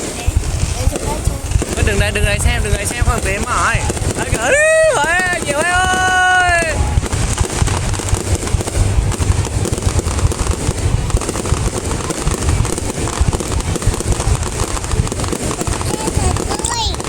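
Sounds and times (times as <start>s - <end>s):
fireworks bangs and crackling: 0.0s - 17.0s
deep low rumble: 0.2s - 17.0s.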